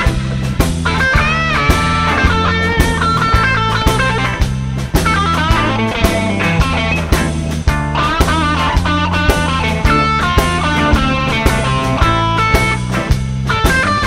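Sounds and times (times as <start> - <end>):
bass guitar: 0.0 - 14.0
lead guitar bending notes: 0.0 - 14.0
steady drum beat: 0.0 - 14.0.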